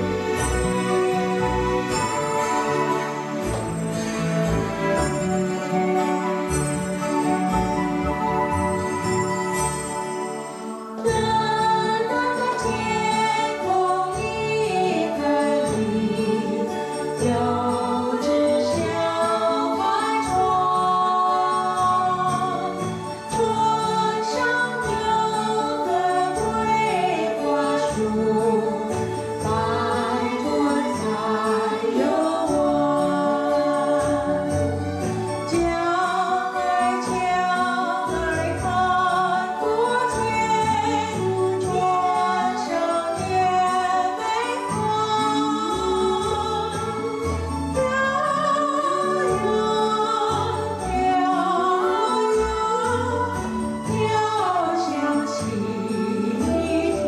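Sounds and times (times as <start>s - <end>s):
waltz song with singing: 0.0s - 57.0s.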